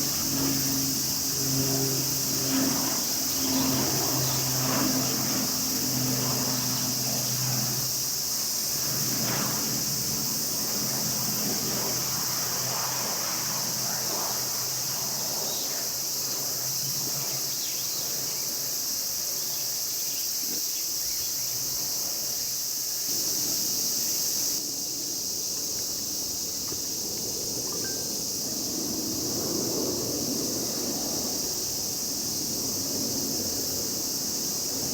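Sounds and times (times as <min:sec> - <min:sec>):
cicadas chorus: 0:00.0 - 0:34.9.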